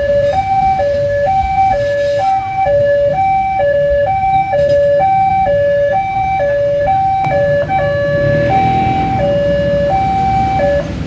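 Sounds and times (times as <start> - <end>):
two-tone siren: 0.0 - 11.0.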